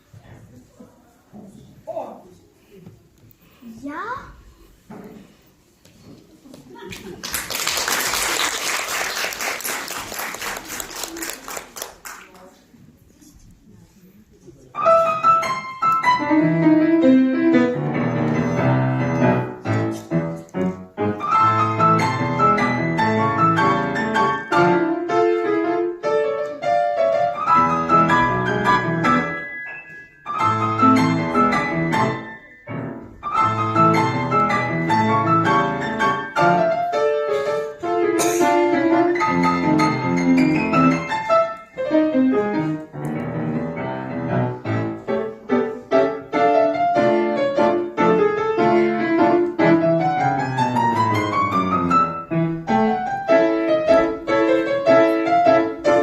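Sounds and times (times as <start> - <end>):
piano ensemble playing pop piece: 7.0 - 12.2, 14.8 - 56.0.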